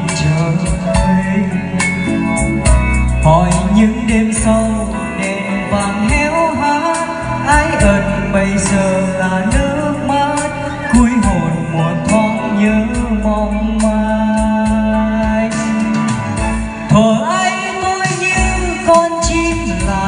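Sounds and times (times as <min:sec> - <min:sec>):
karaoke backing track with heavy bass: 0:00.0 - 0:20.0
man singing into a microphone: 0:00.0 - 0:20.0.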